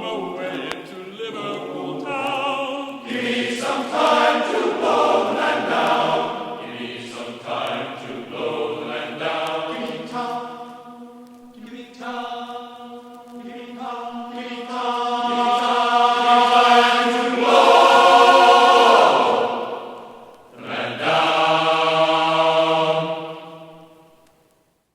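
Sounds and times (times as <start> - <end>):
voices chanting long notes: 0.0 - 24.2.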